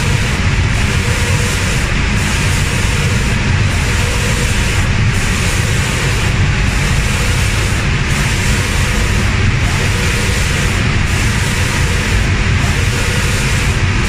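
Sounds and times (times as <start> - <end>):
fans and motors rumbling: 0.0 - 14.0
hiss of spraying air: 0.0 - 14.0.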